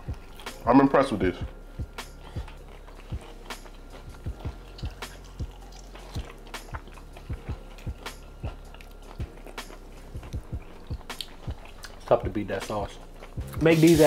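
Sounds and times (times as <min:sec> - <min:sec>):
background music: 0:00.0 - 0:14.0
people chewing: 0:00.0 - 0:14.0.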